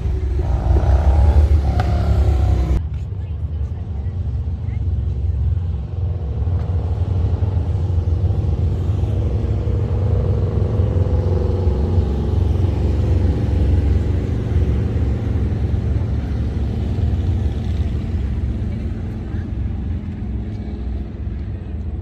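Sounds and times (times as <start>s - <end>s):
wind rumble: 0.0s - 22.0s.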